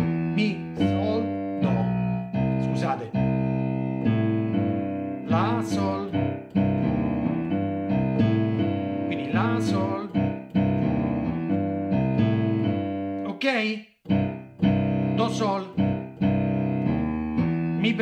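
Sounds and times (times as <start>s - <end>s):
piano boogie-woogie bass line: 0.0s - 18.0s.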